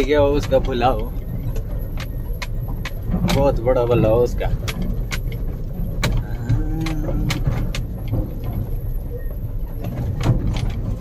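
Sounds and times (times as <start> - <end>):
diesel engine and road noise: 0.0 - 11.0
sharp clicks and rattles: 0.0 - 11.0.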